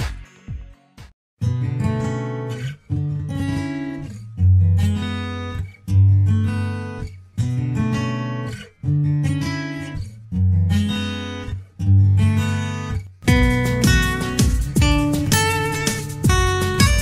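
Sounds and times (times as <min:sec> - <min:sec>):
guitar strumming chords: 0:01.4 - 0:17.0.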